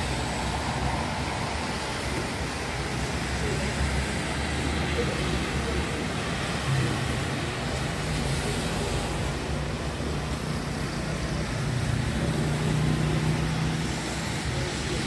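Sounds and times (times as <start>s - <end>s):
rain hiss: 0.0s - 15.0s
tyres on wet road: 0.0s - 15.0s.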